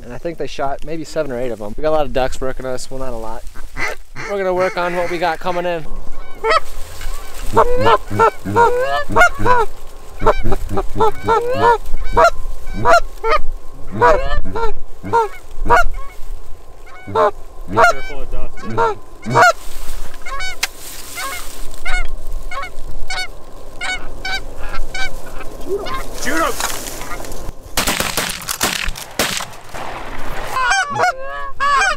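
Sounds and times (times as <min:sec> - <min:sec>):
geese honking and clucking: 0:02.2 - 0:31.9.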